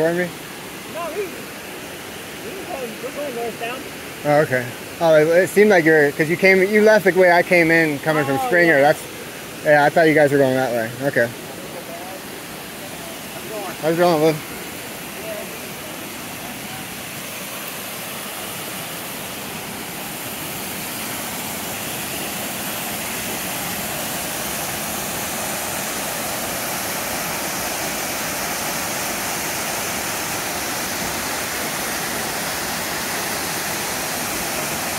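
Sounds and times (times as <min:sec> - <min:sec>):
waterfall pouring into pool: 0:00.0 - 0:34.9.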